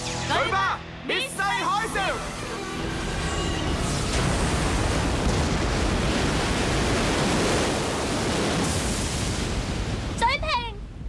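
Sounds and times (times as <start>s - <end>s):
rushing water of huge wave: 1.8s - 11.0s.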